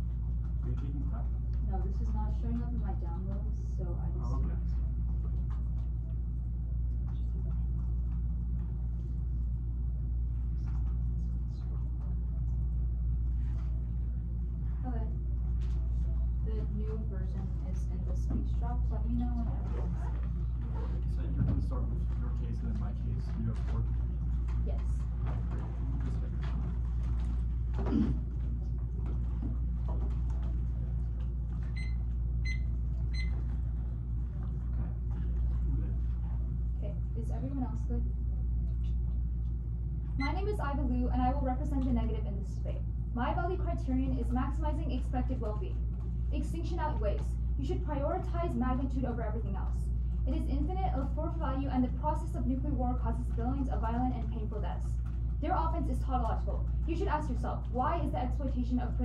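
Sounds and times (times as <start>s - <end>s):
low room hum and rumble: 0.0s - 59.0s.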